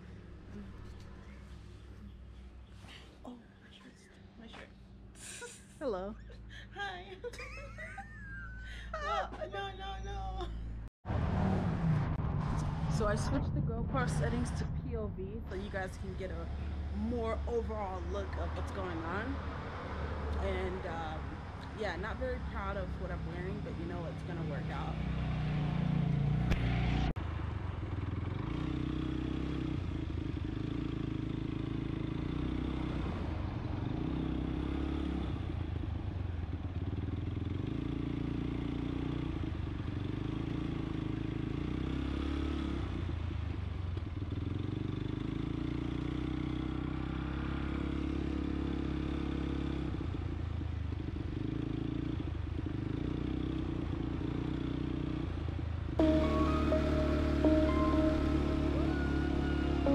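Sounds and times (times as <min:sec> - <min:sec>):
atv engine revving: 0:11.1 - 0:27.2, 0:27.9 - 0:59.9.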